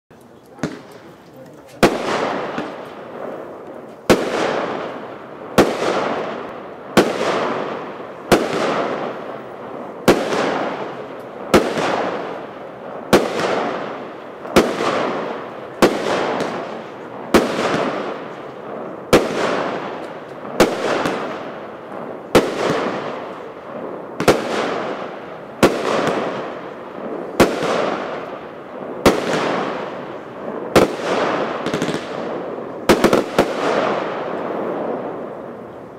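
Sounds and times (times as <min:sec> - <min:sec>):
firework bangs: 0:00.5 - 0:35.9.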